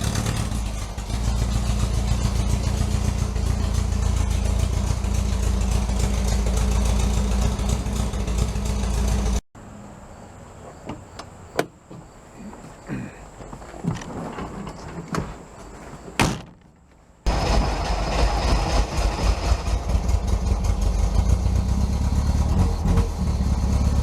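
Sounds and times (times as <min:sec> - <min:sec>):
engine running: 0:00.0 - 0:14.9, 0:17.3 - 0:24.0.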